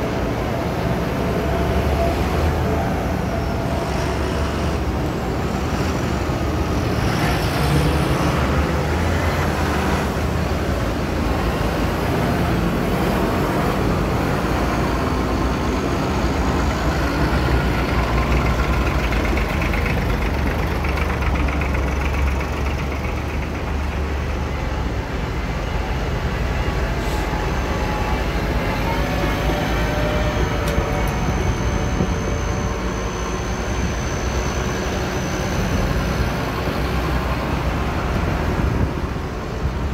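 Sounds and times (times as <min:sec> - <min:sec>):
tractor engines driving past: 0:00.0 - 0:39.9.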